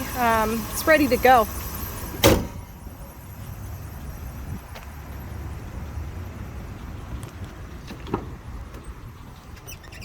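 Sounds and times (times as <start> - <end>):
van engine idling: 0.0 - 10.0.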